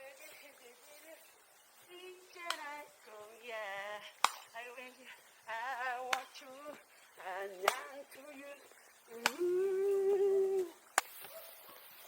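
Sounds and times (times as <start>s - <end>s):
woman singing with vibrato: 0.0s - 10.8s.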